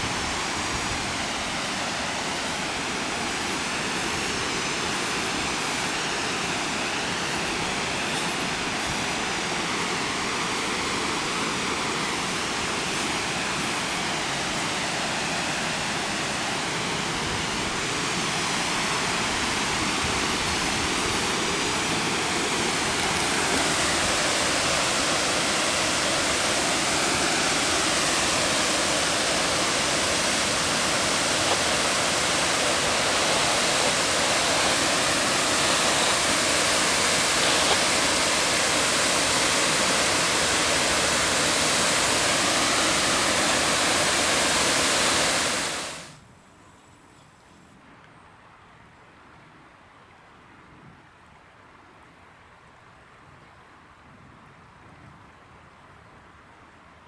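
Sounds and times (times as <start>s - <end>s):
water rushing over a dam: 0.0s - 46.2s.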